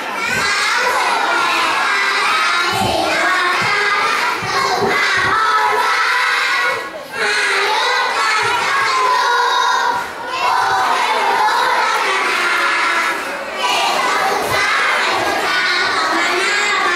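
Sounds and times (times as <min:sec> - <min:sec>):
children singing in unison: 0:00.0 - 0:16.9.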